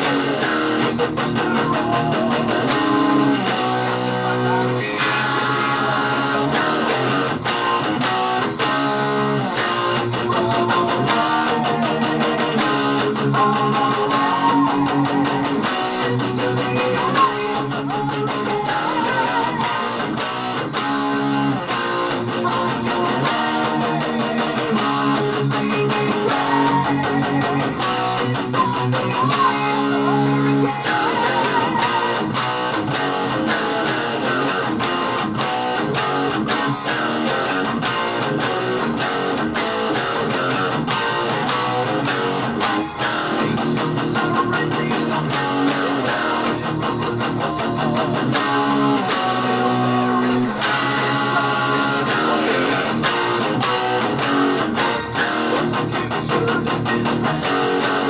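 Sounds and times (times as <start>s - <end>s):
heavy metal electric guitar: 0.0s - 58.0s.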